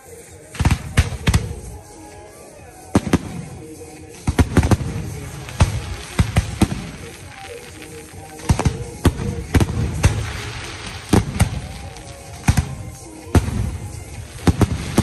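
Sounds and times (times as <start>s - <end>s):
firework shells booming: 0.6s - 1.9s, 3.0s - 15.0s.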